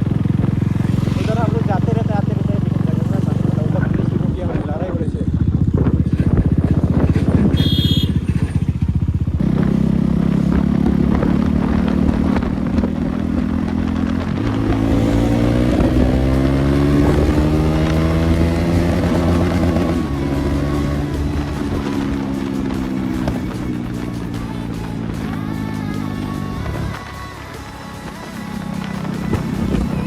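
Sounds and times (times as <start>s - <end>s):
motorcycle engine without silencer: 0.0s - 30.0s.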